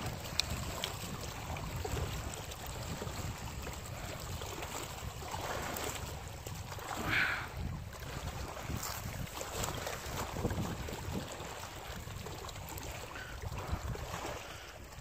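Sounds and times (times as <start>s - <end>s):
faint water wash: 0.0s - 15.0s
wind rumbling on microphone: 0.0s - 15.0s.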